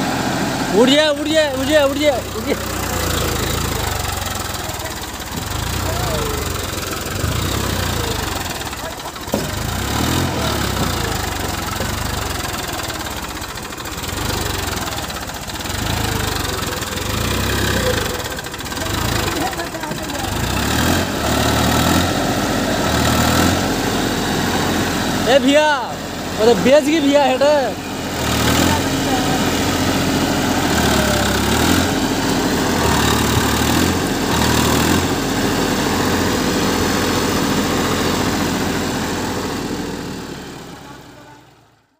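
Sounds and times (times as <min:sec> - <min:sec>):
wheels churning mud: 0:00.0 - 0:39.6
tractor diesel engine working hard: 0:00.0 - 0:41.9.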